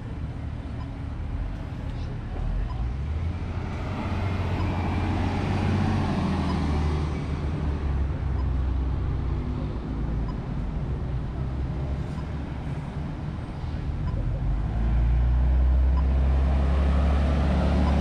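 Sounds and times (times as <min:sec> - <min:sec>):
bus and cars driving: 0:00.0 - 0:18.0.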